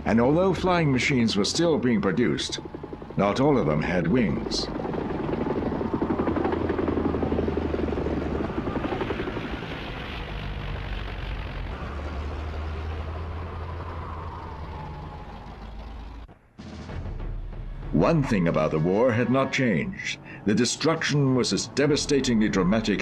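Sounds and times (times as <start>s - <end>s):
aircraft engines droning: 0.0s - 16.4s, 18.0s - 23.0s.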